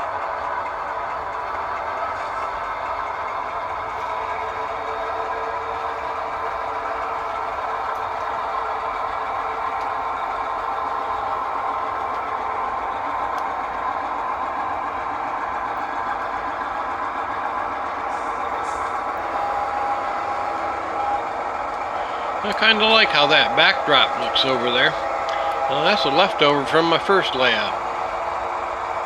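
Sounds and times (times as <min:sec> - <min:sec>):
diesel locomotive engine running: 0:00.0 - 0:29.0.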